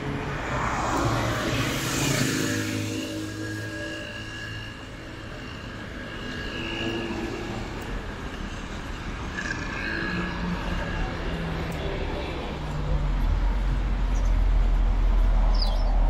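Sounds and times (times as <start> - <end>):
road vehicle passing close: 0.0 - 16.0
traffic hum: 0.0 - 16.0.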